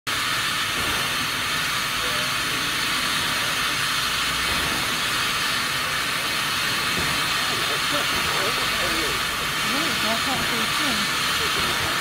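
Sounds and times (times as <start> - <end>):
steam hissing from locomotive: 0.1 - 12.0.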